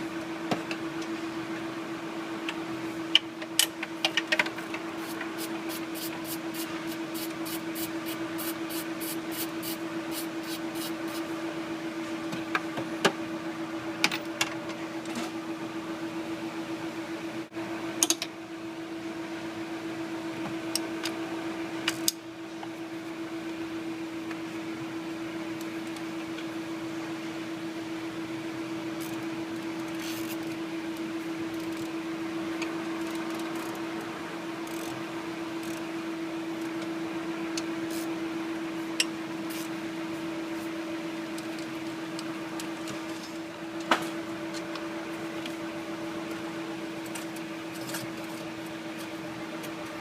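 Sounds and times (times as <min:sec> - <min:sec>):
steady mechanical hum: 0:00.0 - 0:50.0.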